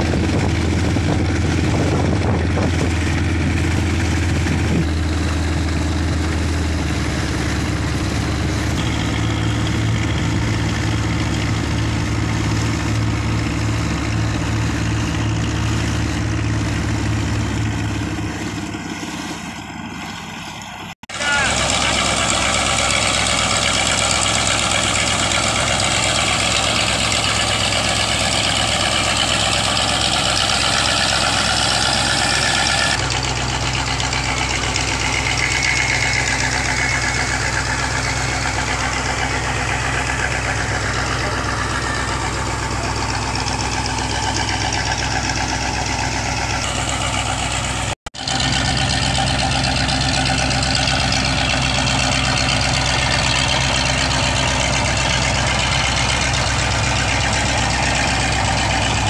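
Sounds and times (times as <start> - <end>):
dredger engine running: 0.0 - 59.0.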